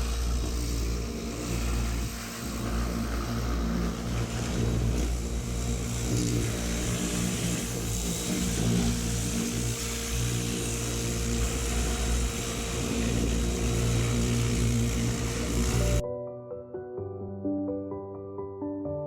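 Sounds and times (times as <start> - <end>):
engine running with hiss: 0.0 - 16.0.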